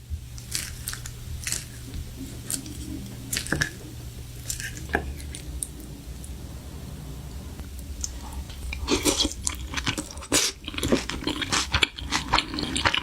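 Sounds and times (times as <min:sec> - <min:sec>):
steady low hum: 0:00.0 - 0:13.0
wet chewing: 0:00.2 - 0:06.7, 0:07.7 - 0:13.0.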